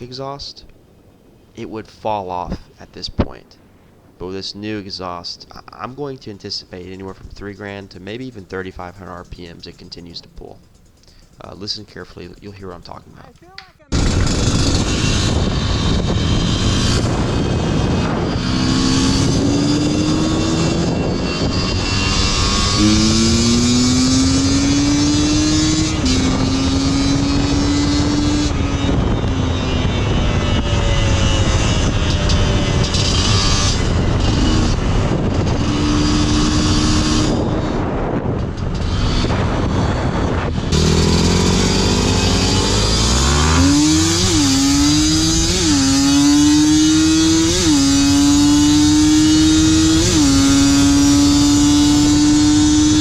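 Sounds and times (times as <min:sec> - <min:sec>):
wind noise: 0:00.0 - 0:53.0
two-stroke motorcycle engine revving: 0:05.8 - 0:13.0, 0:13.8 - 0:53.0.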